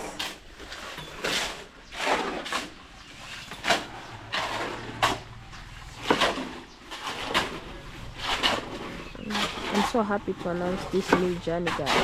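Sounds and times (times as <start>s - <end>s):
scraping on gravel: 0.0s - 12.0s.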